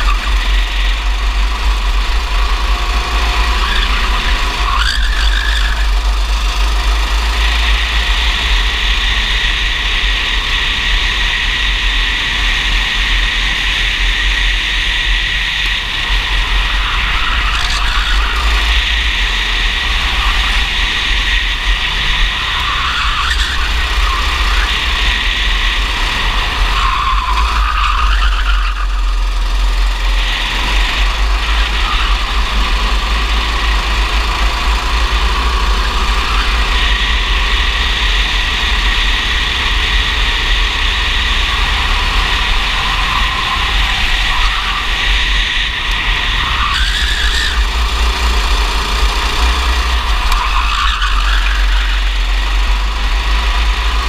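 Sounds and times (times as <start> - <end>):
racing kart engine revving: 0.0 - 54.0.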